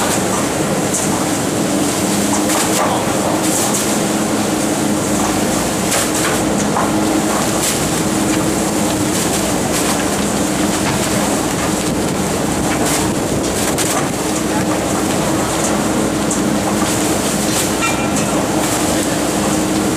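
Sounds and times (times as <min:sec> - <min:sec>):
garbage truck machine hum: 0:00.0 - 0:19.9.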